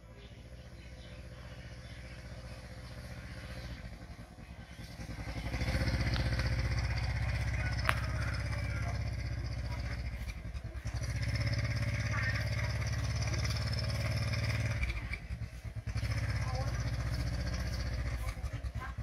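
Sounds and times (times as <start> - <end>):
small motorcycle engine idling: 0.0 - 19.0.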